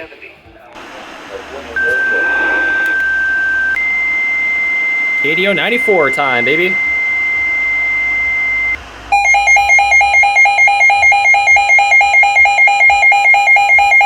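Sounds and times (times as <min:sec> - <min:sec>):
steady high electronic tone: 0:00.8 - 0:14.0
two-pitch electronic alarm warble: 0:01.6 - 0:14.0.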